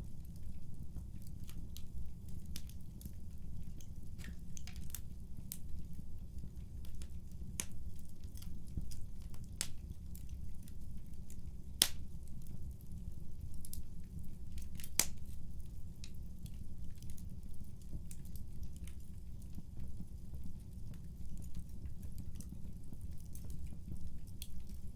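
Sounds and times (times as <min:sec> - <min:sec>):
fire popping and snapping: 0:00.0 - 0:24.9.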